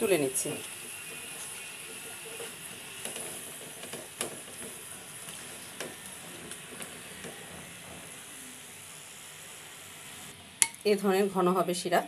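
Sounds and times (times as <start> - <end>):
pastries deep-frying in hot oil: 0.0 - 12.0.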